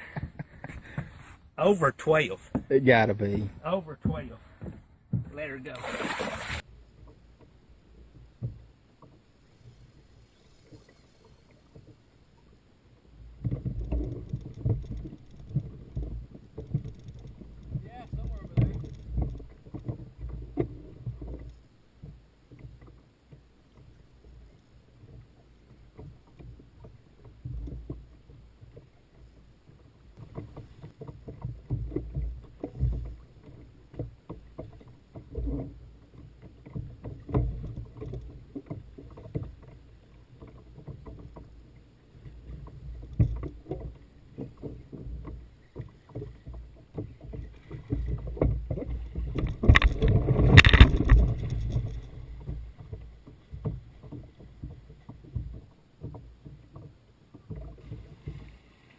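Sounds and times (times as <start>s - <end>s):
water slapping against boat hull: 2.1s - 9.2s, 13.2s - 58.9s.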